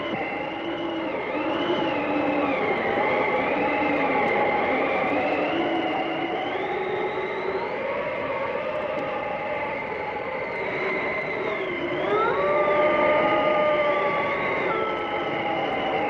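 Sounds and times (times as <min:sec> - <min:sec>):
blizzard wind howling and whistling: 0:00.0 - 0:16.0.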